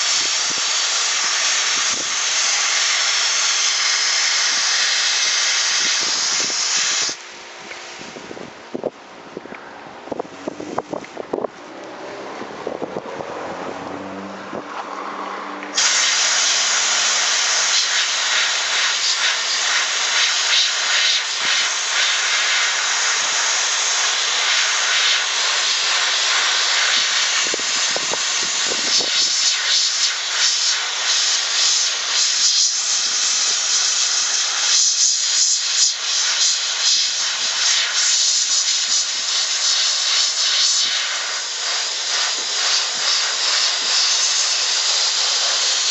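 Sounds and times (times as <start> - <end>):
sandblasting gun hissing: 0.0 - 8.9, 15.7 - 45.9
quieter hiss: 0.0 - 12.0, 15.6 - 45.9.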